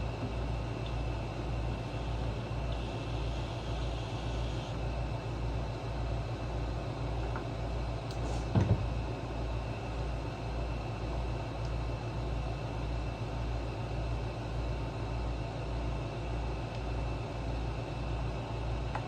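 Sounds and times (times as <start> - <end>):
workshop hum and hiss: 0.0 - 19.0.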